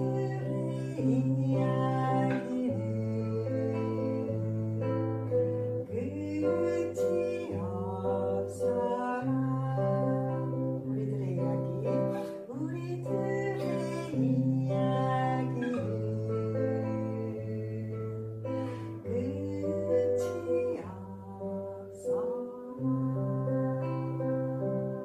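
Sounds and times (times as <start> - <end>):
acoustic guitar: 0.0 - 25.0
person singing: 0.0 - 25.0.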